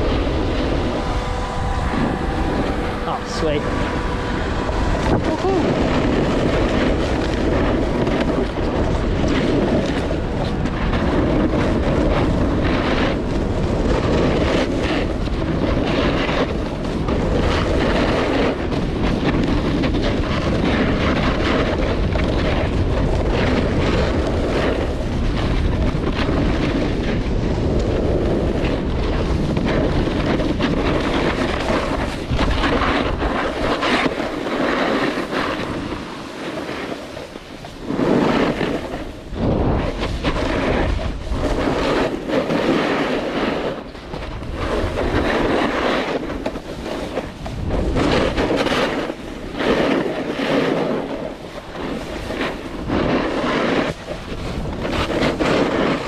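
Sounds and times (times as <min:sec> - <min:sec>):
snowboard scraping over snow: 0:00.0 - 0:56.0
wind rushing over microphone: 0:00.0 - 0:56.0.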